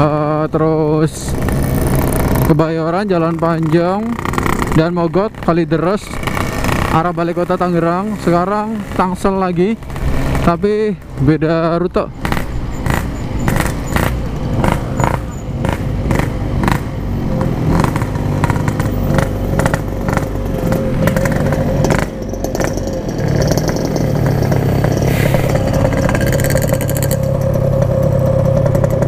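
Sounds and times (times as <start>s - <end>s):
two-stroke motorcycle engine: 0.0s - 29.0s
exhaust crackles: 0.6s - 29.0s.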